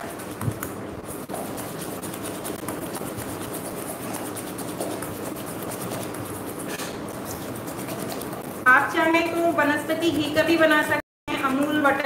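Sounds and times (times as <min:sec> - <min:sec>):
whisk scraping metal bowl: 0:00.0 - 0:12.0.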